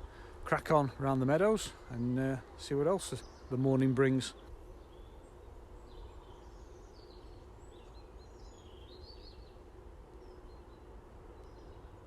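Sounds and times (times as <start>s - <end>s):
faint birds chirping: 0.0s - 12.0s
outdoor background noise: 0.0s - 12.0s.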